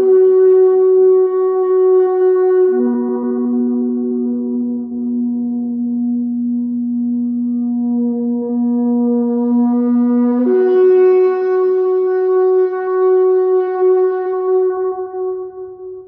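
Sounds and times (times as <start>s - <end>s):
shofar blast: 0.0s - 6.5s, 7.2s - 15.6s.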